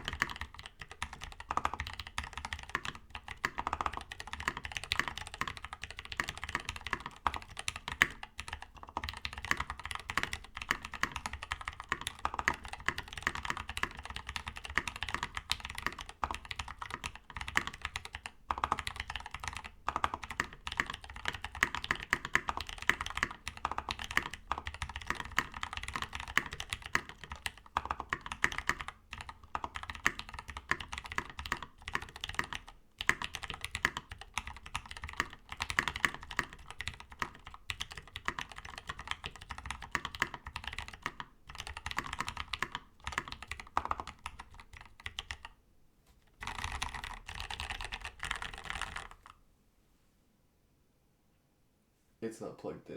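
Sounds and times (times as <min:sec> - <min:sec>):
mechanical keyboard typing: 0:00.0 - 0:45.6, 0:46.4 - 0:49.4.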